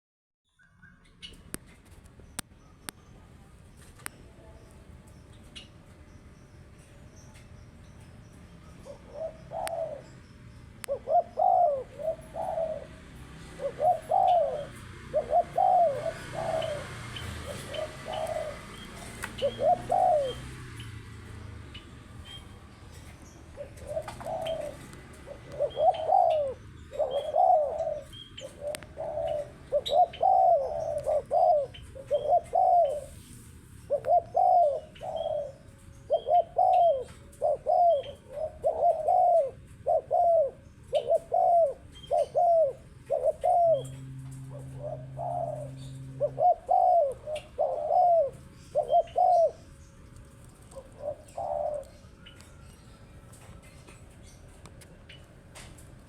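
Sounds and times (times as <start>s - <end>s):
dove cooing: 8.7s - 10.2s, 10.8s - 21.5s, 22.2s - 56.0s.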